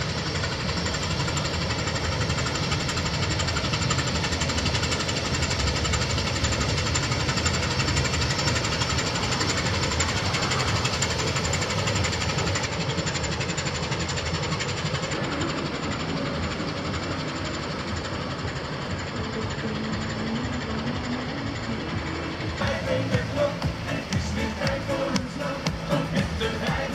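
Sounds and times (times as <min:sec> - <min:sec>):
ship diesel engine knocking: 0:00.0 - 0:26.9.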